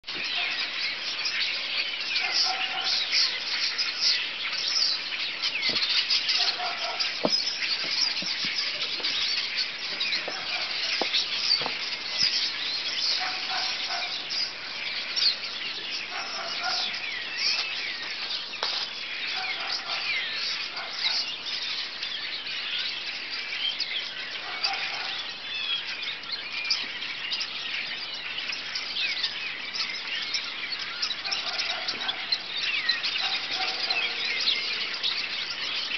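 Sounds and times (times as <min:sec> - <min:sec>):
flock of birds chirping: 0:00.0 - 0:35.9.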